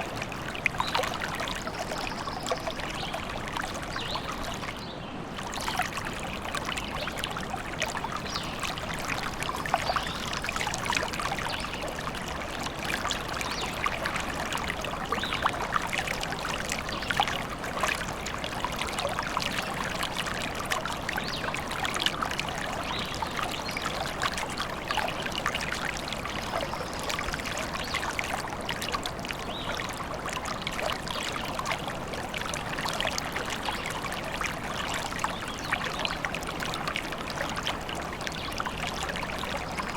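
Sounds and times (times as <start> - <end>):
small stream babbling over stones: 0.0 - 39.9.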